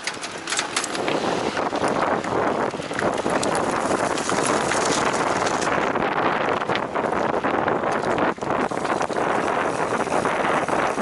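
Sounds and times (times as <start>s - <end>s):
bike rattles and clicks: 0.0s - 11.0s
tyres rolling over gravel: 0.0s - 11.0s
wind noise on microphone: 0.0s - 11.0s.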